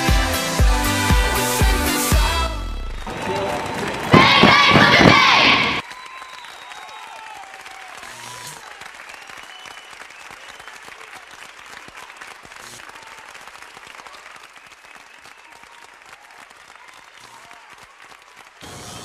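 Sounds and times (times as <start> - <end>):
crowd applauding: 2.8 - 18.7.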